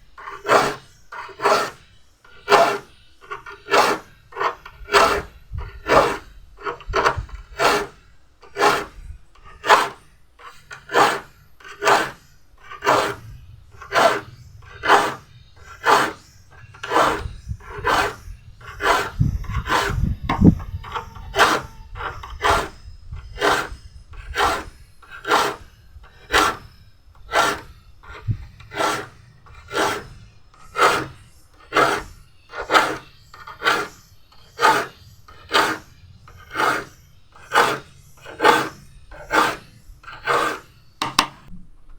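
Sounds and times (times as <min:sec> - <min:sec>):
hand file sharpening saw teeth: 0:00.2 - 0:41.3.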